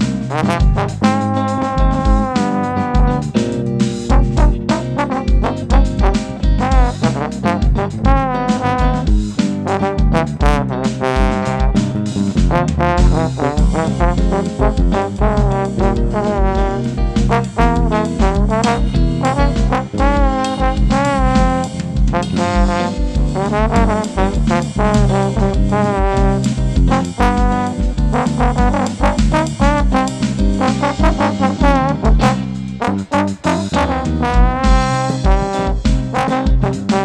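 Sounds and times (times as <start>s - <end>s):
bass line: 0.0s - 37.0s
steady drum beat: 0.0s - 37.0s
trombone sliding melody: 0.0s - 37.0s.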